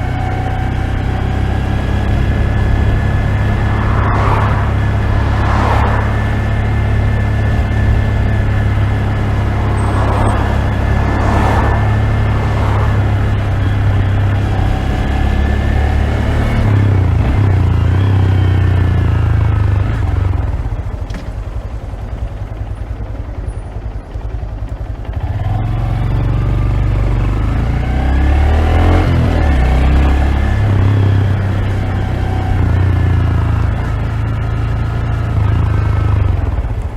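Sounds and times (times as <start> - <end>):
muffled motorcycle engine: 0.0 - 36.9.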